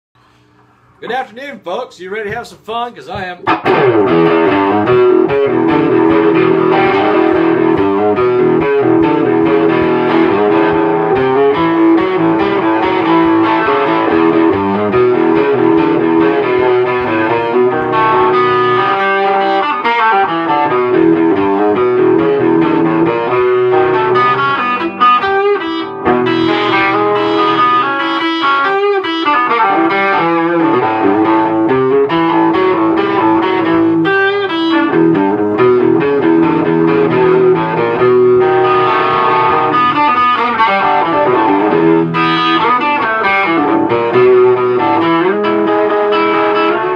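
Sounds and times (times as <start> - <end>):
electric guitar playing: 0.3 - 46.9.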